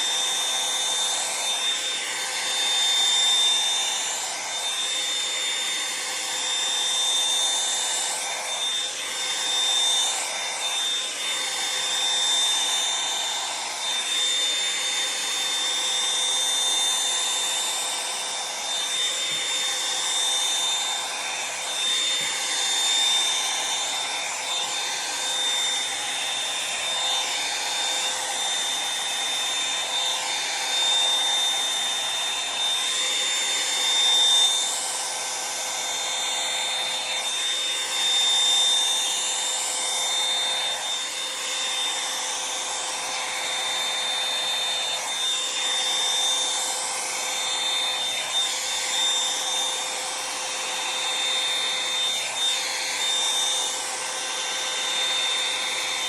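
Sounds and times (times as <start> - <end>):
hair dryer brush whining: 0.0 - 56.0.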